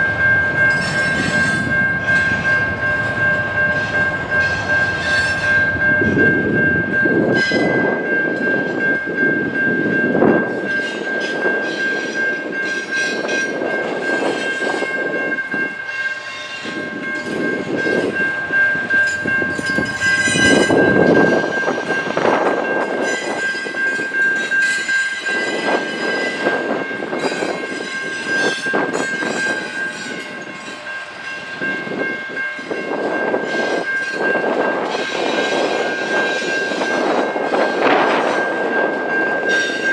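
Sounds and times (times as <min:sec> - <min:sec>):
train wheels clattering on track: 0:00.0 - 0:39.9.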